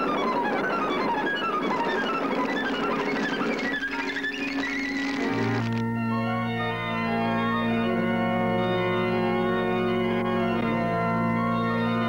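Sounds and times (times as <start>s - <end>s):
sustained organ chords: 0.0s - 12.0s.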